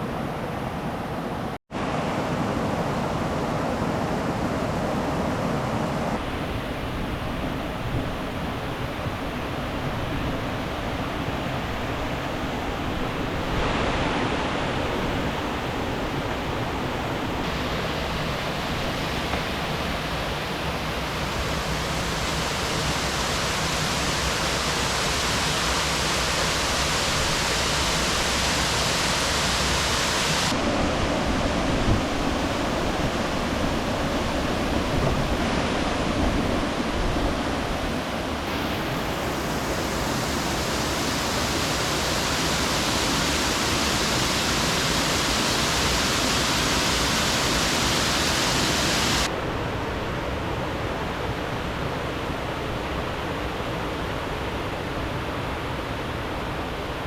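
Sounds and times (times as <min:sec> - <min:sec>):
rushing river water: 0:00.0 - 0:57.0.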